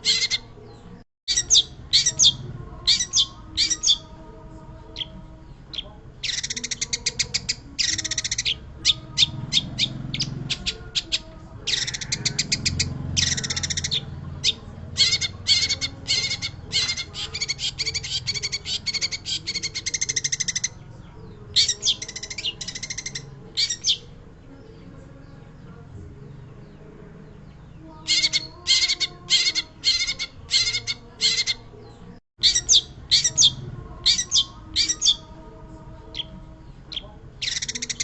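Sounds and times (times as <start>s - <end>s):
bird singing rattling trills: 0.0s - 38.0s.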